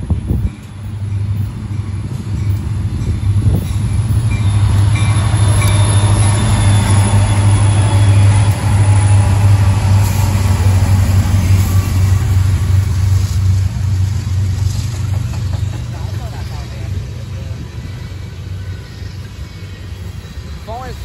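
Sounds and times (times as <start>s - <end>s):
diesel locomotives rumbling past: 0.0s - 21.0s.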